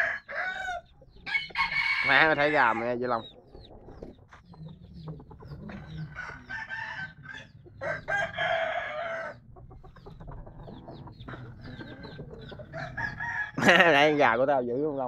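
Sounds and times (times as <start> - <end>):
roosters crowing: 0.0 - 14.5
roosters clucking: 0.0 - 15.0.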